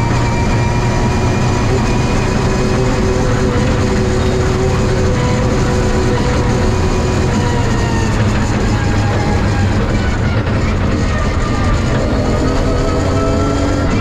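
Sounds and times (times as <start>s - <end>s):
car engine droning: 0.0s - 14.0s
road noise: 0.0s - 14.0s.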